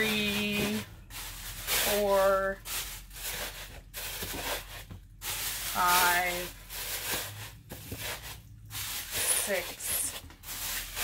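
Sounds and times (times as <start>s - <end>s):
plastic bags crinkling and rustling: 0.0s - 11.0s.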